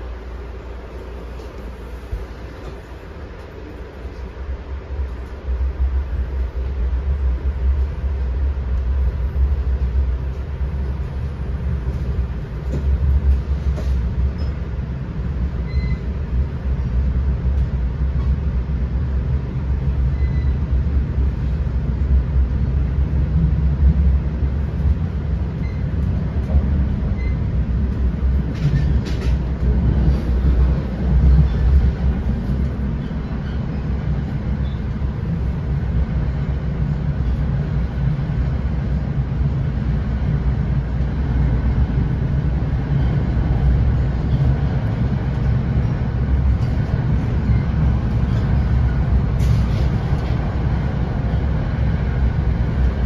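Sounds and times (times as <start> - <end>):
train coach rumbling on rails: 0.0 - 53.0.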